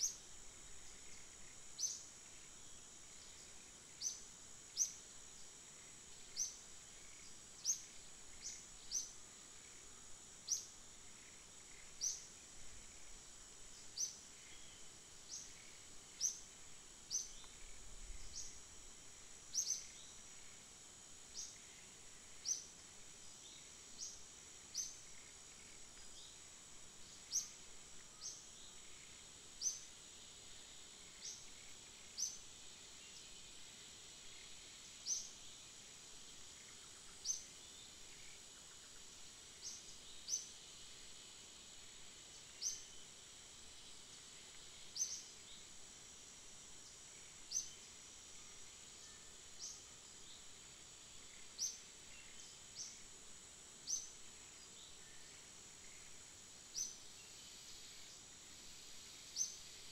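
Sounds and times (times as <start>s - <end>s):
high insect buzz: 0.0s - 59.9s.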